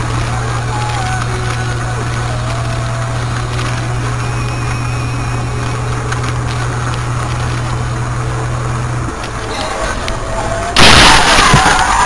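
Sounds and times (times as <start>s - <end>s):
car engine drone: 0.0s - 12.0s
road noise hiss: 0.0s - 12.0s.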